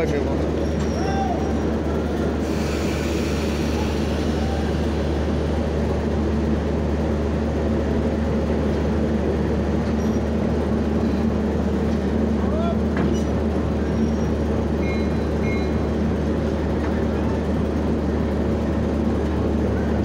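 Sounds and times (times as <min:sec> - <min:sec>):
diesel locomotive engine humming: 0:00.0 - 0:20.0.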